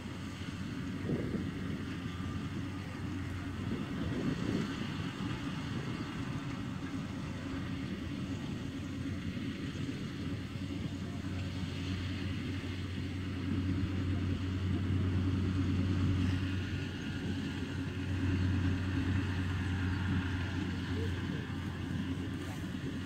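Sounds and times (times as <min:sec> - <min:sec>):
combine harvester engine drone: 0:00.0 - 0:23.0.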